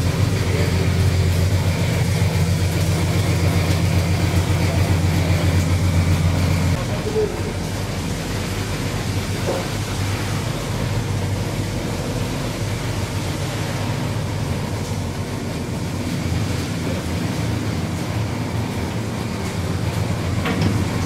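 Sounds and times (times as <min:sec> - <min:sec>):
boat engine droning: 0:00.0 - 0:21.0
rush of sea noise: 0:00.0 - 0:21.0.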